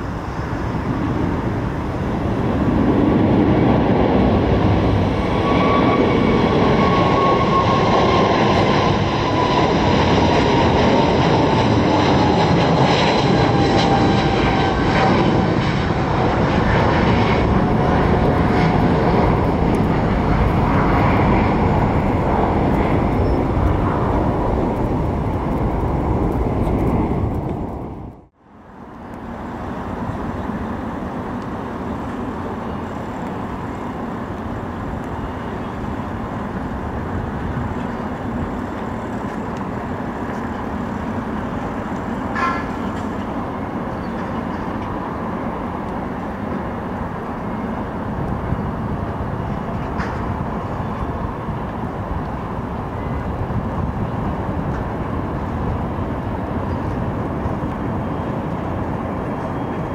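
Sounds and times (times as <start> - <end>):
jet engines at takeoff: 0.0 - 59.9
jet landing rumble: 0.0 - 59.9.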